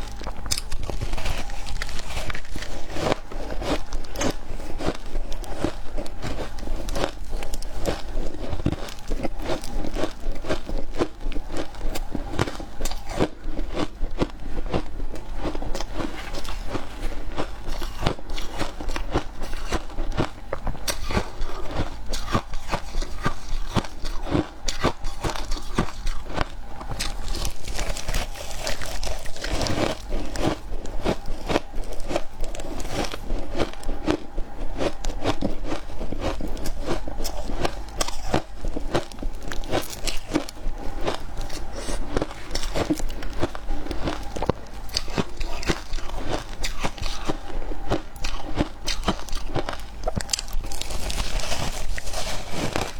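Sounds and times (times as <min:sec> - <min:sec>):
chewing crunchy ice: 0:00.0 - 0:52.9.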